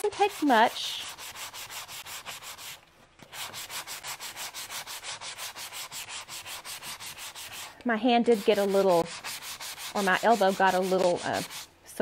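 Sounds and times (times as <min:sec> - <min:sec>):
sanding sponge rubbing wood: 0:00.0 - 0:11.7.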